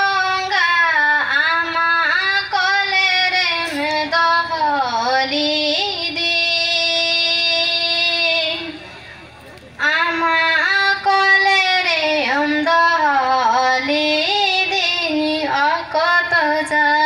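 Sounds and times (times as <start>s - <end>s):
woman singing unaccompanied: 0.0s - 8.8s, 9.8s - 17.0s.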